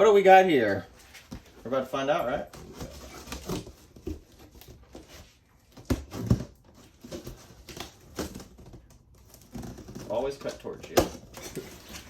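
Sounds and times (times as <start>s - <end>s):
cardboard box being opened: 1.0s - 12.0s.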